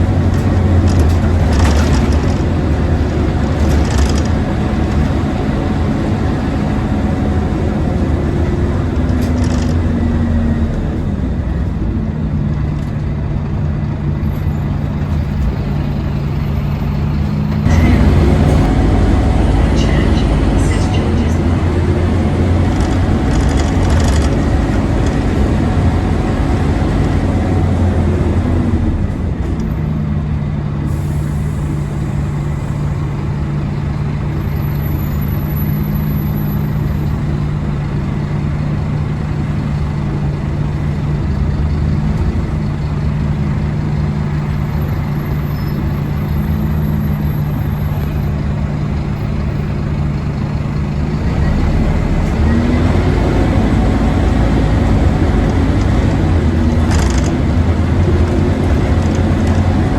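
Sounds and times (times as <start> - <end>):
diesel bus engine running: 0.0 - 59.9.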